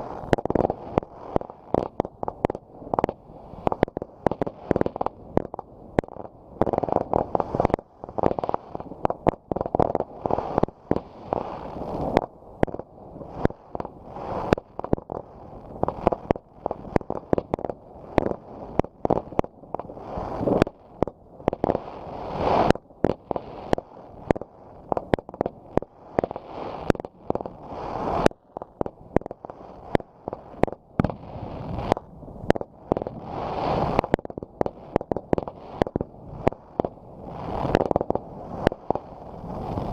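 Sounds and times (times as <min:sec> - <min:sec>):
fireworks bangs and pops: 0:00.0 - 0:39.9
fireworks crackle: 0:00.0 - 0:39.9.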